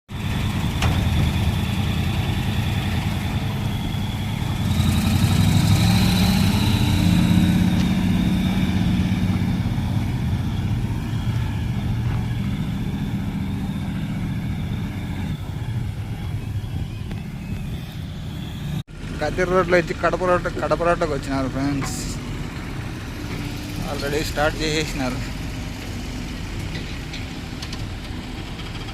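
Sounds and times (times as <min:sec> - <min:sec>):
road traffic engines: 0:00.1 - 0:28.9
truck passing close: 0:00.1 - 0:28.9.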